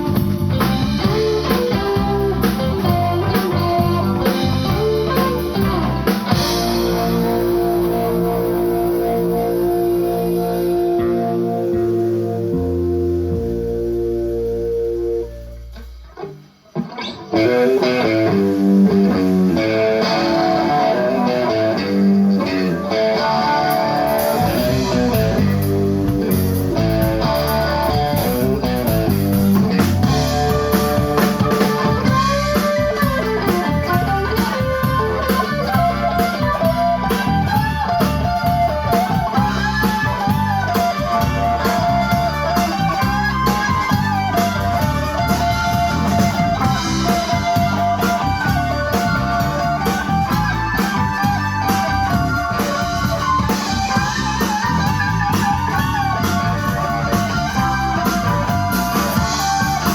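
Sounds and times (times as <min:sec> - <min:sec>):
bass guitar: 0:00.0 - 0:59.9
bending melodic lead guitar: 0:00.0 - 0:59.9
electric guitar: 0:00.0 - 0:59.9.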